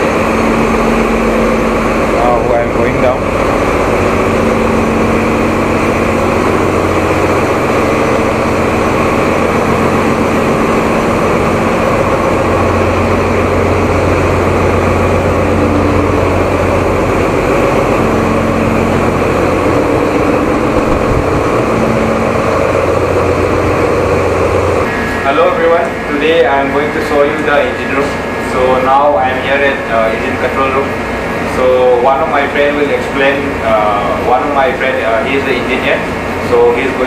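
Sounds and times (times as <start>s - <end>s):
constant low hum: 0.0s - 36.7s
ship engine-room machinery drone: 0.0s - 37.0s
ventilation: 0.0s - 37.0s.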